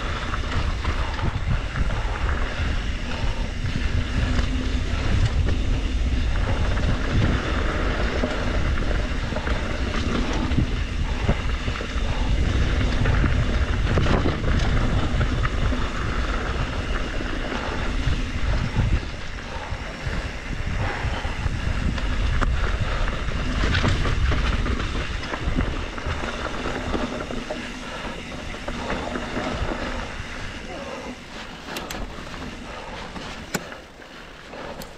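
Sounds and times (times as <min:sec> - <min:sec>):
bike rattling over bumps: 0:00.0 - 0:34.9
tyres rolling over dirt and rock: 0:00.0 - 0:34.9
wind buffeting microphone: 0:00.0 - 0:34.9.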